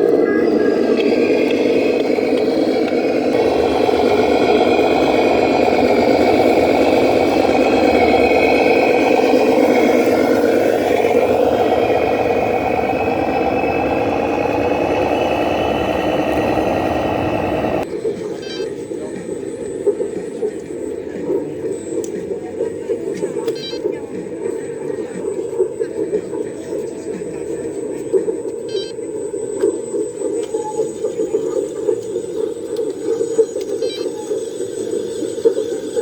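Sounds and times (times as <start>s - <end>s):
high-pitched motor whine: 0.0s - 36.0s
model vehicle engine running: 0.0s - 36.0s.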